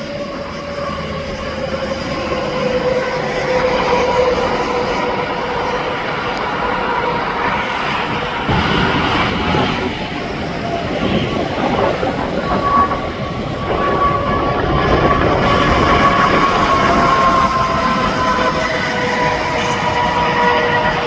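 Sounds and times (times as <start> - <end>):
high vehicle whine: 0.0 - 21.0
highway traffic rushing: 0.0 - 21.0.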